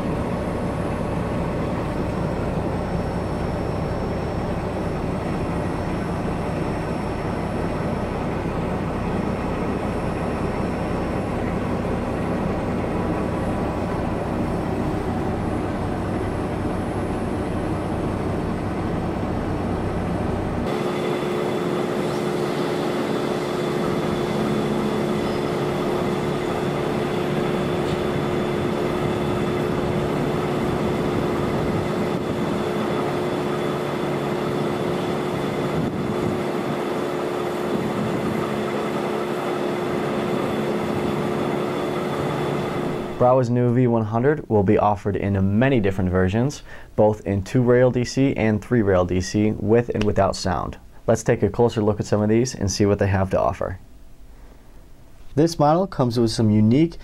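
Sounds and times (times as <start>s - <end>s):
diesel locomotive running: 0.0s - 57.0s
low hum: 0.0s - 57.0s.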